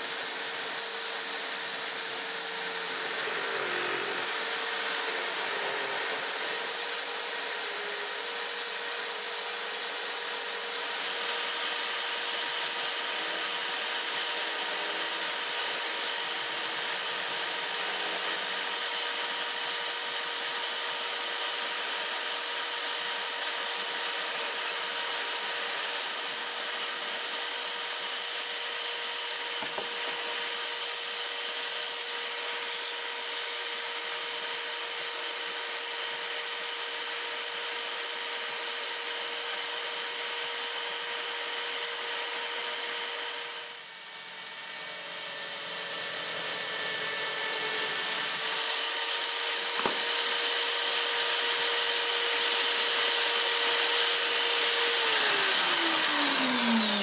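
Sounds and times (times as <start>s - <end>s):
electric drill running: 0.0s - 57.0s.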